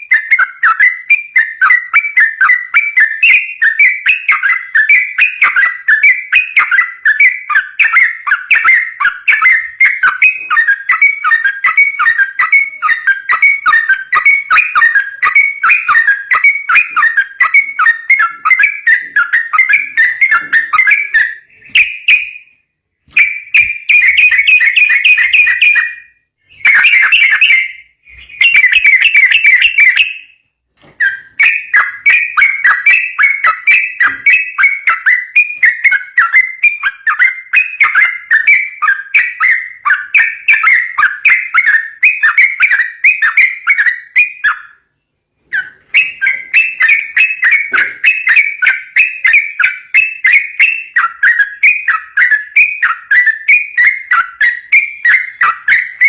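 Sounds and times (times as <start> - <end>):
bird singing rapid repeated notes: 0.0 - 56.0.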